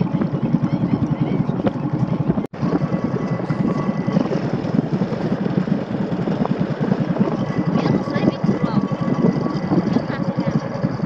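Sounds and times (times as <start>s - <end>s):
boat engine chugging: 0.0s - 11.0s
water noise: 0.0s - 11.0s
wind: 0.0s - 11.0s.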